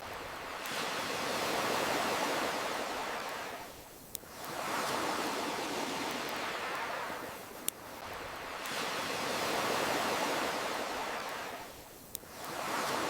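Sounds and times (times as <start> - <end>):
campfire crackle: 0.0 - 13.0
ocean waves on shore: 0.0 - 13.0.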